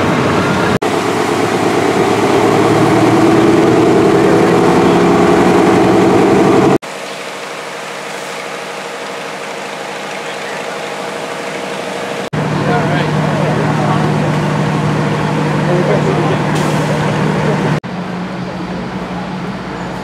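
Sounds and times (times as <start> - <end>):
engine running steadily: 0.0 - 20.0
fire engine pump engine running hard: 0.0 - 20.0.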